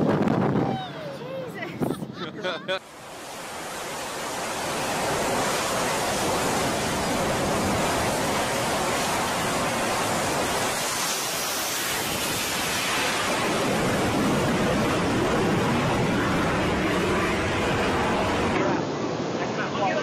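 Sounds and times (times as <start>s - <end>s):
jet engines at full power: 2.8s - 20.0s.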